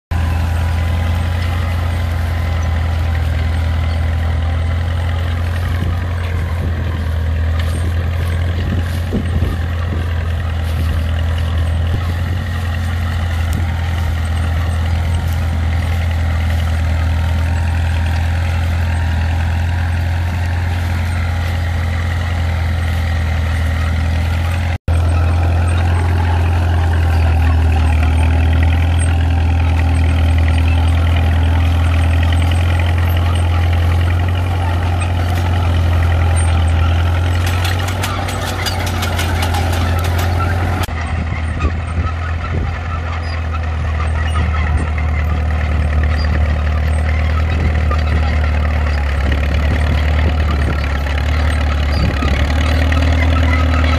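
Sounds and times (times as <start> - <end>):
crawler diesel engine under load: 0.0 - 53.9
tractor diesel engine under load: 0.0 - 53.9.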